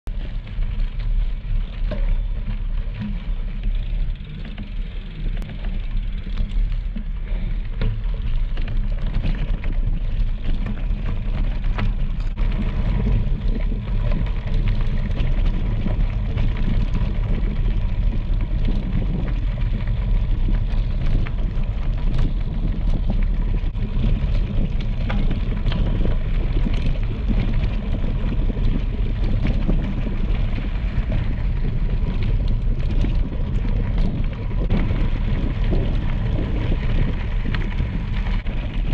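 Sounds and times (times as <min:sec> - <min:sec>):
bike rattling: 0:00.1 - 0:38.9
wind buffeting microphone: 0:05.8 - 0:38.9.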